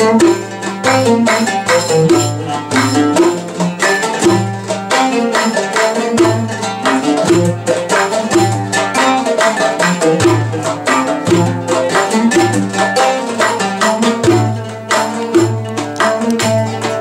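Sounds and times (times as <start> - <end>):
oud melody: 0.0 - 17.0.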